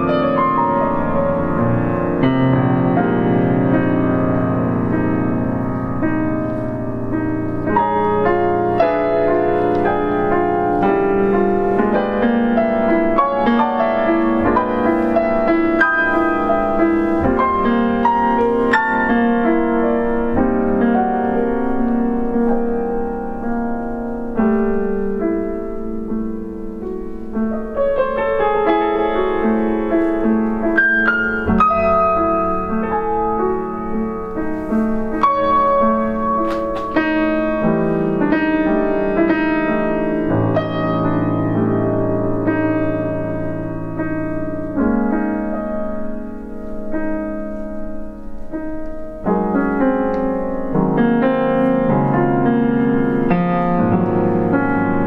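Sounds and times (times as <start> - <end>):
solo grand piano piece: 0.0 - 55.0.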